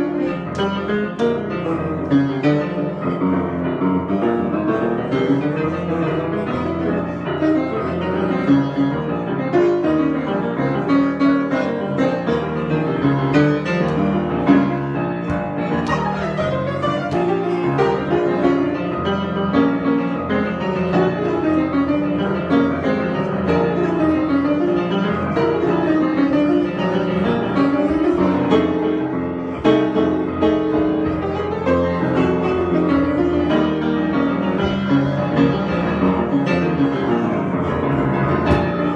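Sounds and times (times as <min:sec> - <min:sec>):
solo piano improvisation: 0:00.0 - 0:38.9.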